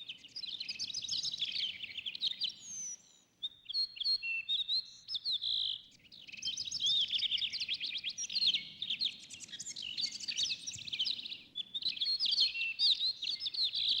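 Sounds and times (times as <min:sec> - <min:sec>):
songbirds chirping and singing: 0:00.0 - 0:14.0.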